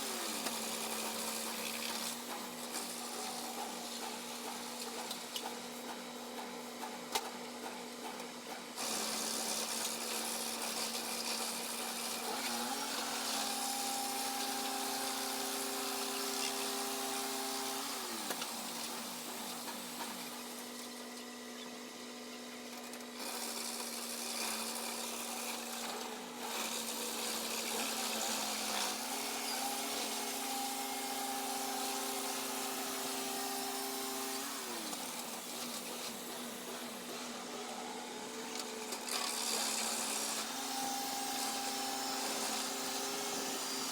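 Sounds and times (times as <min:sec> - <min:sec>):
hissing saw cutting log: 0:00.0 - 0:06.2, 0:08.8 - 0:21.0, 0:23.1 - 0:43.9.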